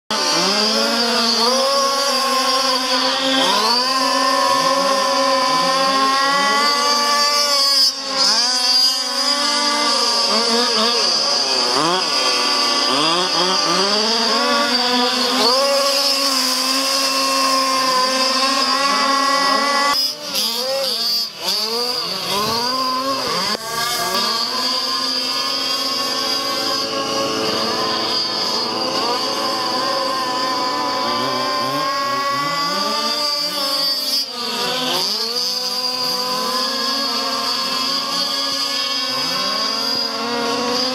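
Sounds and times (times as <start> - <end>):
model truck engine revving: 0.1 - 40.9.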